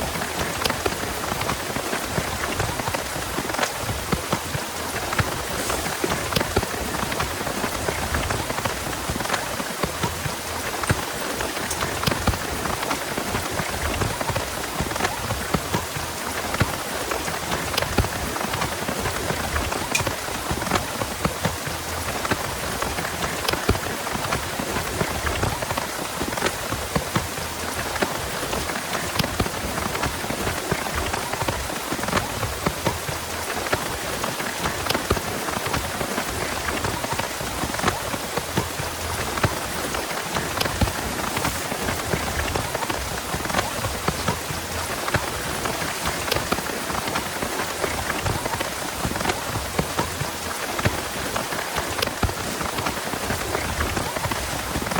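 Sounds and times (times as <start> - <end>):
heavy rain with drops clicking: 0.0 - 54.9.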